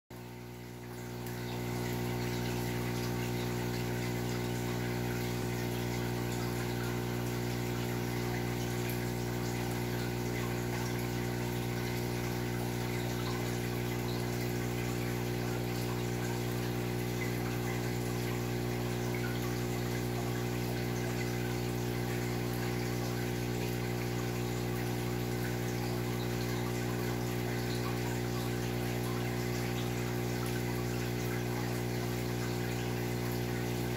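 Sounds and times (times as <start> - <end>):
aquarium pump humming: 0.1 - 33.9
water trickling: 0.1 - 33.9.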